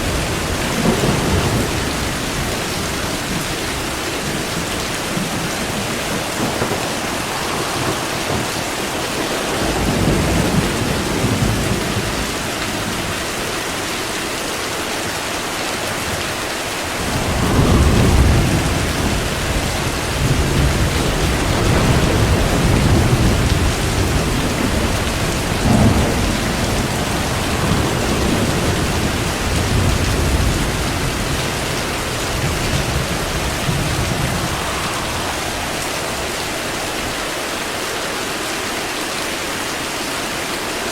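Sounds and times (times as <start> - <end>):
thunder rumbling: 0.0 - 37.9
heavy rain hissing: 0.0 - 40.9.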